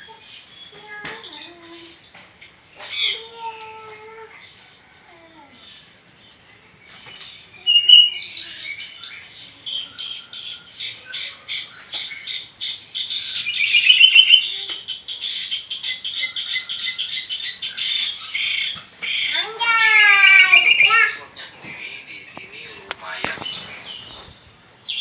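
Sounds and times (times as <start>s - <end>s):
bird chattering notes: 0.0s - 21.4s.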